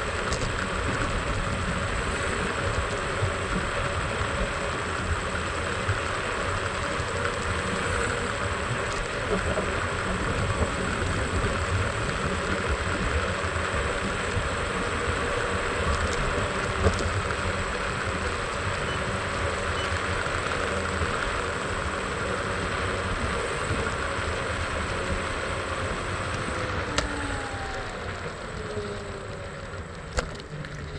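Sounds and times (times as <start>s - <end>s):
road noise: 0.0s - 30.9s
scooter engine running: 0.0s - 30.9s.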